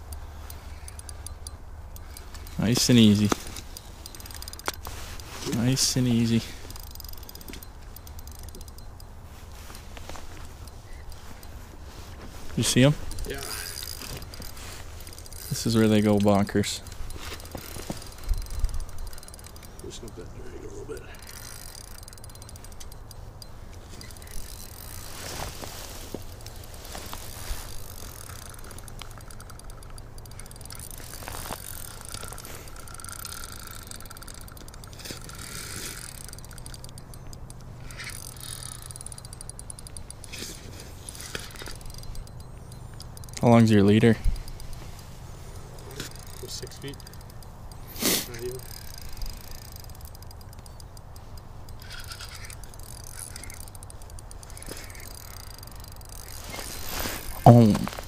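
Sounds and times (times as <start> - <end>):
fishing reel ratcheting: 0.0 - 58.0.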